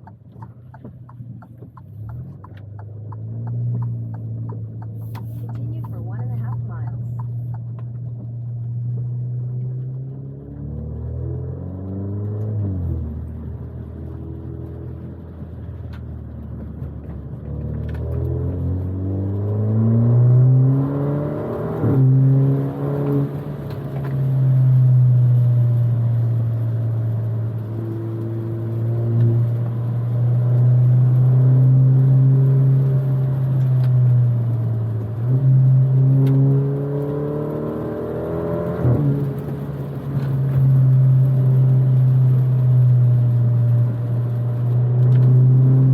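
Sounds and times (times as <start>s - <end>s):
car engine pulling through gears: 0.0s - 45.9s.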